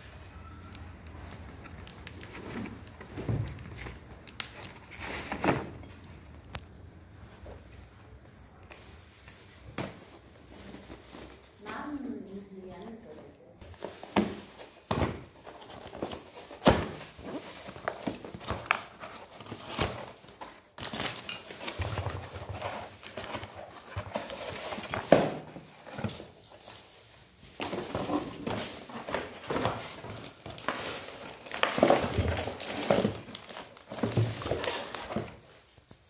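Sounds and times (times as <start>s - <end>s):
rustling: 0.0s - 36.0s.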